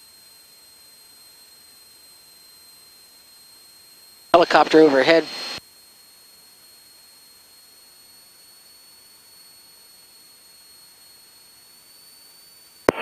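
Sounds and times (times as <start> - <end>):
thin high-pitched whine: 0.1 - 13.0.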